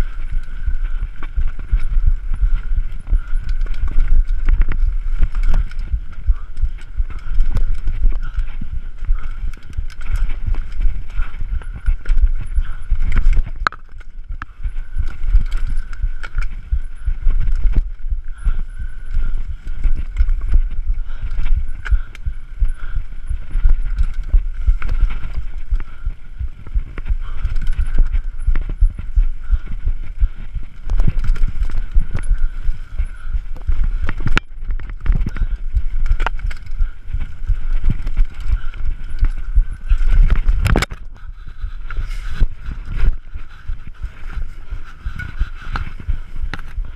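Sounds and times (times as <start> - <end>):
bike rattling over bumps: 0.0 - 46.9
bike tyres rumbling on dirt: 0.0 - 46.9.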